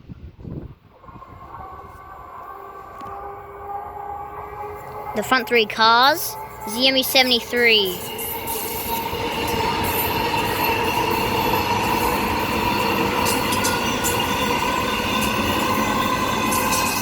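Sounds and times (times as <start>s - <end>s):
train high whine: 0.0s - 17.0s
train wheels rumbling on rail: 3.2s - 17.0s.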